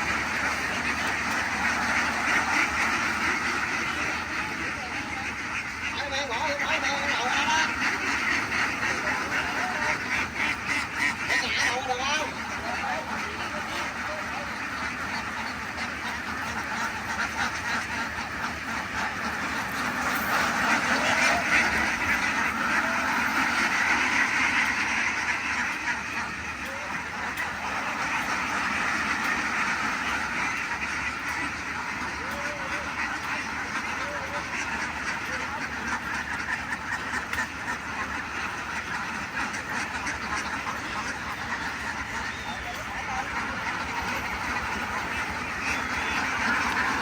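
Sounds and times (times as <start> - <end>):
ducks quacking: 0.0 - 47.0.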